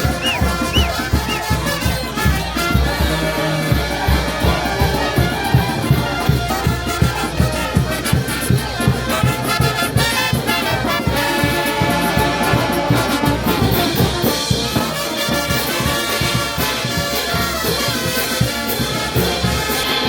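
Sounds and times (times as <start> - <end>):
brass band playing: 0.0 - 20.0
steady drum beat: 0.0 - 20.0.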